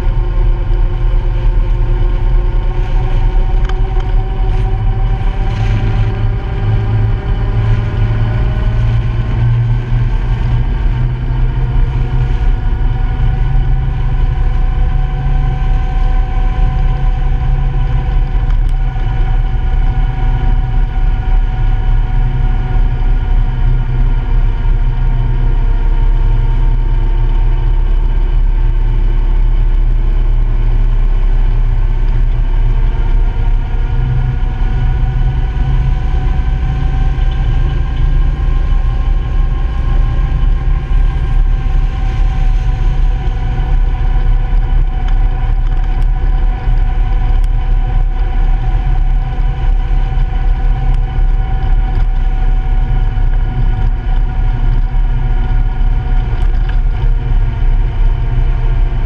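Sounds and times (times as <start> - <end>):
single-cylinder engine running: 0.0 - 59.0.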